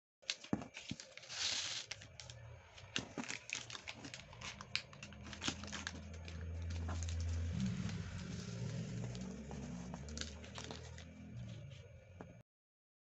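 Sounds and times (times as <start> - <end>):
paper crinkling and creasing: 0.2 - 11.9
faint low hum: 0.8 - 12.4.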